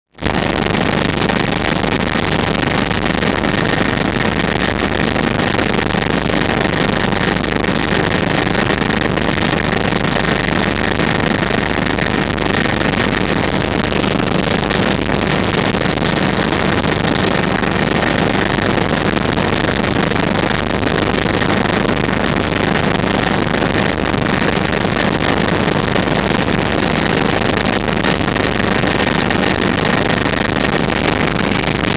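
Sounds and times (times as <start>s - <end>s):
engine drone with high whine: 0.2s - 31.9s.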